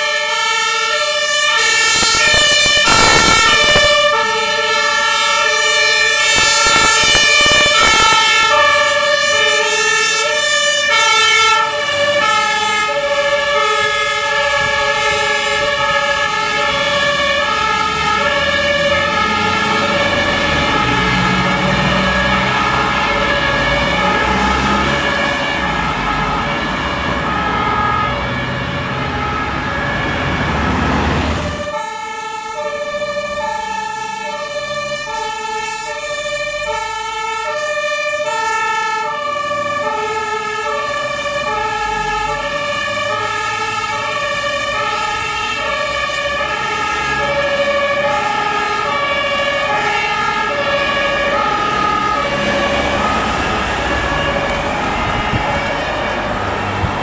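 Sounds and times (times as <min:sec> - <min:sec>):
fire engines rumbling: 0:00.0 - 0:57.0
two-tone fire siren: 0:00.0 - 0:57.0.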